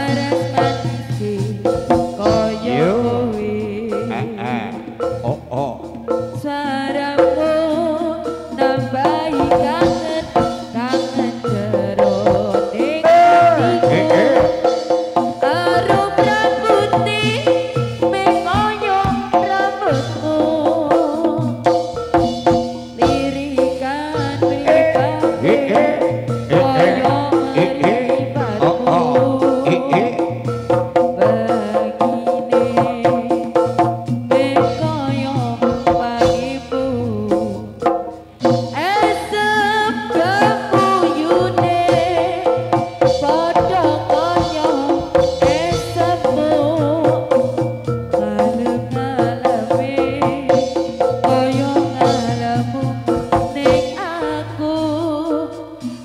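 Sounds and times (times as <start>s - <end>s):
hand drums beating: 0.0s - 56.0s
held gamelan tone: 0.0s - 56.0s
wavering sliding melody: 0.0s - 56.0s.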